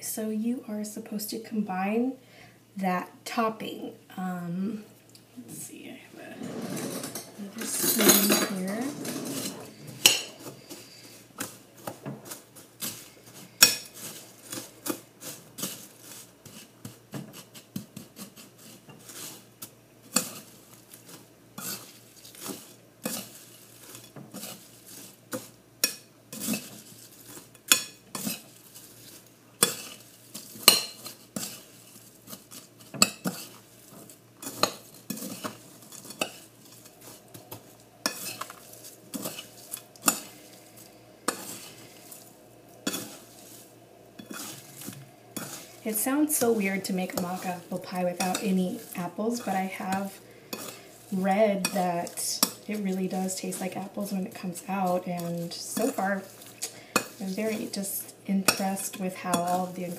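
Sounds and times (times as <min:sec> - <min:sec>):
spoon stirring in bowl: 0:06.4 - 0:59.9.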